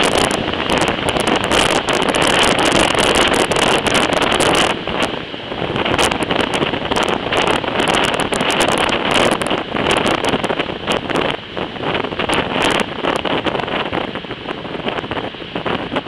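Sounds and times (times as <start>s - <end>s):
air rushing past train window: 0.0s - 16.0s
train carriage rumbling on track: 0.0s - 16.0s
wind buffeting microphone: 0.0s - 16.0s.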